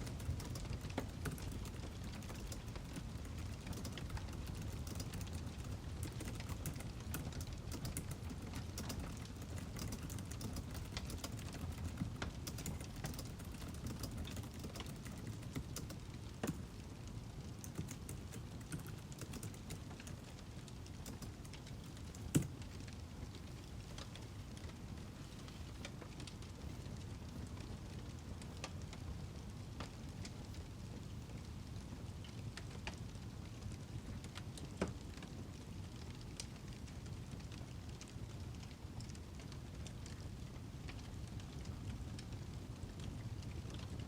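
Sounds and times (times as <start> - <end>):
firewood crackling: 0.0 - 44.0.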